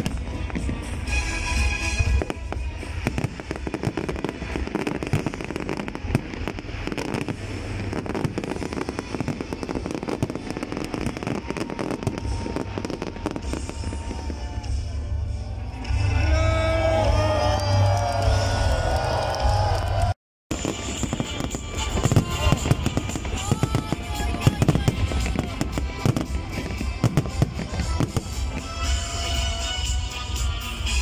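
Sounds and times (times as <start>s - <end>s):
fireworks popping and crackling: 0.0s - 15.2s, 20.5s - 31.0s
low rumbling: 0.0s - 29.6s.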